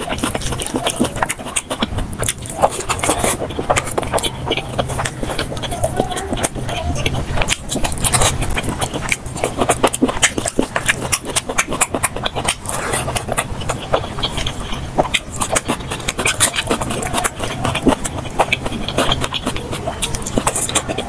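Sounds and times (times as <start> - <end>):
person chewing and lip smacking: 0.0 - 21.0.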